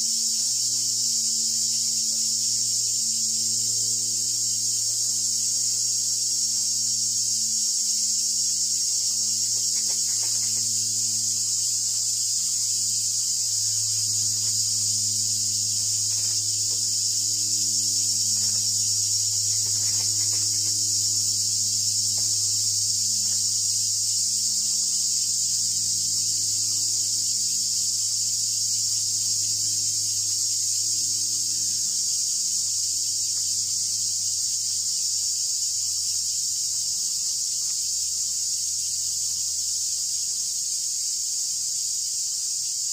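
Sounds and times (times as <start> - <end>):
low steady hum: 0.0 - 35.0
high-pitched insect trill: 0.0 - 42.9.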